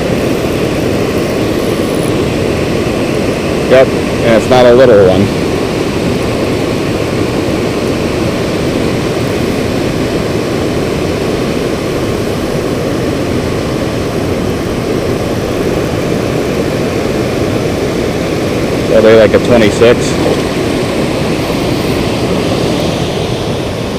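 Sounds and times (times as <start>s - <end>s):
water rushing over spillway: 0.0s - 23.9s.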